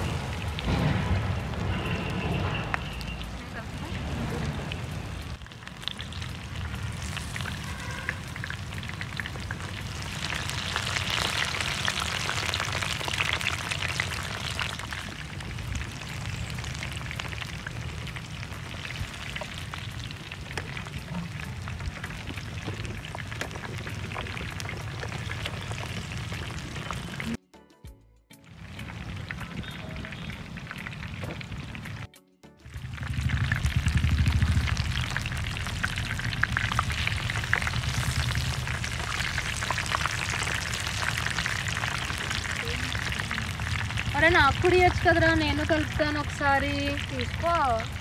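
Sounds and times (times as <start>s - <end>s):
meat sizzling in hot oil: 0.0s - 27.4s, 28.6s - 32.1s, 32.7s - 48.0s.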